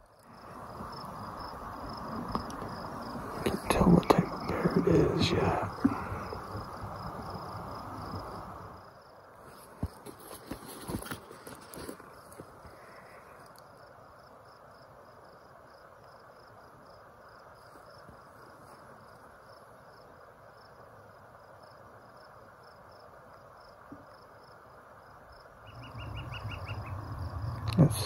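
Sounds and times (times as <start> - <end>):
faint outdoor hiss: 0.0 - 28.0
insect chirping: 0.0 - 28.0.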